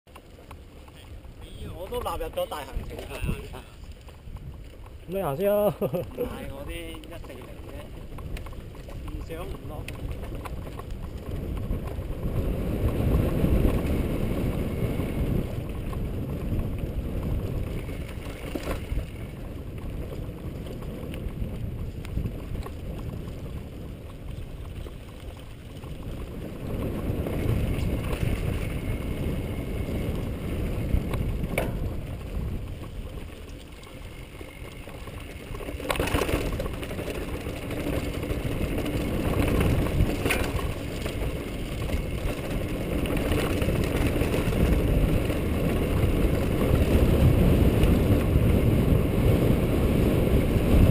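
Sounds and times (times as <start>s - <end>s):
bike knocking on rocks: 0.1s - 14.0s, 15.7s - 48.2s
mountain bike rattling on dirt: 0.1s - 50.9s
wind rumbling on microphone: 0.1s - 50.9s.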